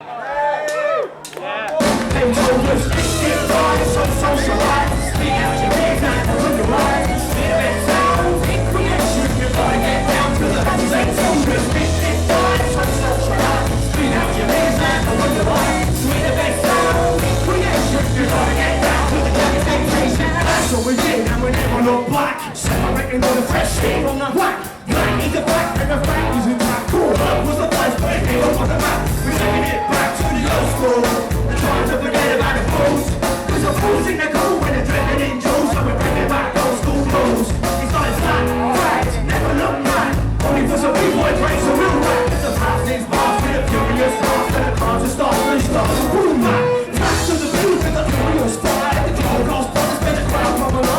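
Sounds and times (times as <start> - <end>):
live band playing hip hop: 1.8 - 50.9
person singing: 1.8 - 50.9.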